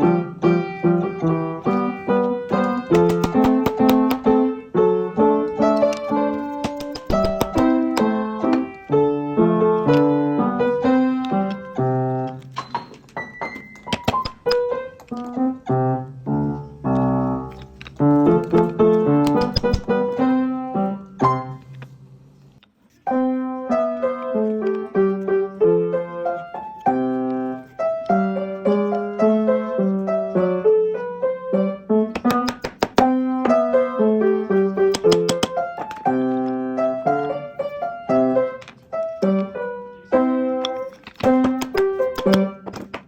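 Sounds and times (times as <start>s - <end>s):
piano music: 0.0s - 22.4s, 23.0s - 43.0s.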